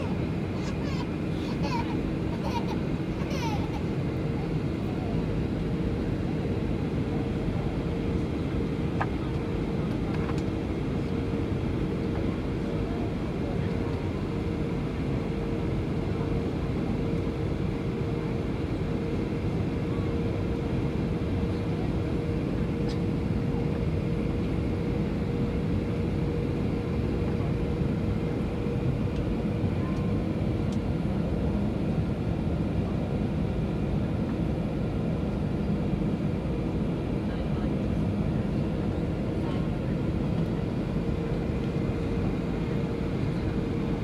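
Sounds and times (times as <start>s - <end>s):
jet engine and airflow roar: 0.0s - 44.0s.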